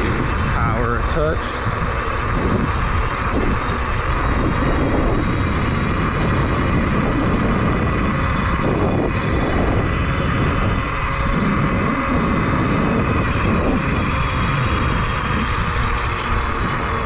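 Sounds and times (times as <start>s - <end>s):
electric motor whine: 0.0s - 17.0s
wind buffeting microphone: 0.0s - 17.0s.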